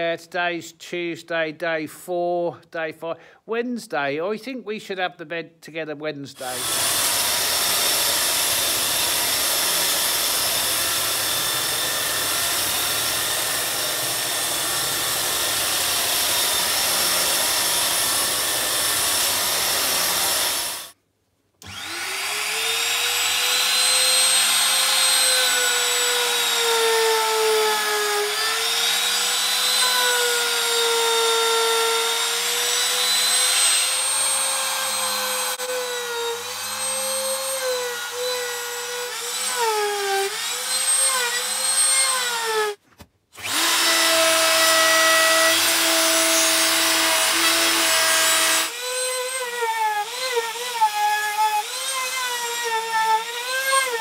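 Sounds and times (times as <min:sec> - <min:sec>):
belt sander on wood: 0:06.4 - 0:21.0, 0:21.6 - 0:42.8, 0:43.4 - 0:54.0
electric router cutting wood: 0:06.4 - 0:21.0, 0:21.6 - 0:42.8, 0:43.4 - 0:54.0
plunge router running: 0:06.5 - 0:20.9, 0:21.6 - 0:42.5, 0:43.4 - 0:53.5.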